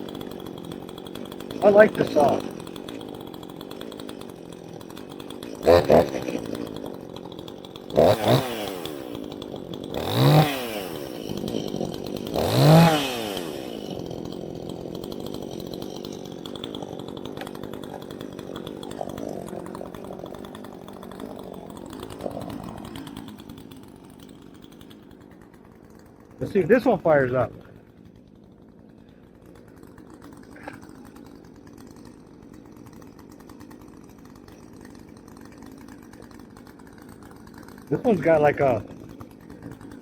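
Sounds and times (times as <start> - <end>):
chainsaw revving and idling: 0.0 - 40.0.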